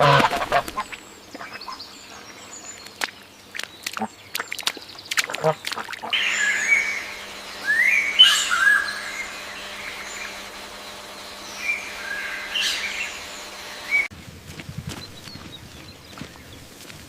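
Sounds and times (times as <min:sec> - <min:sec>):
birds chirping: 0:00.0 - 0:17.0
faint steady hum: 0:00.0 - 0:17.0.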